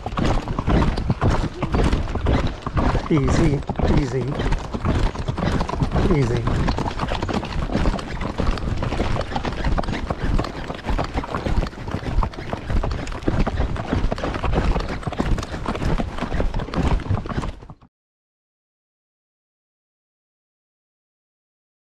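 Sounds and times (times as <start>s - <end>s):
horse hoofbeats on dirt road: 0.0s - 17.9s.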